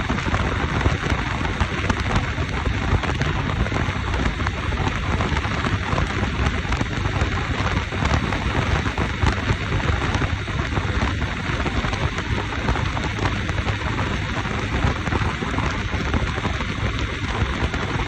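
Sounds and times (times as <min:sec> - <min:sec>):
motorcycle low fluttering rumble: 0:00.0 - 0:18.0
wind rushing on microphone: 0:00.0 - 0:18.0.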